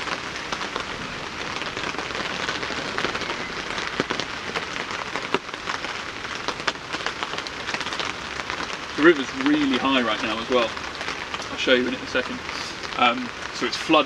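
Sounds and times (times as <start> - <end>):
rain drops tapping on a tarp: 0.0 - 14.0.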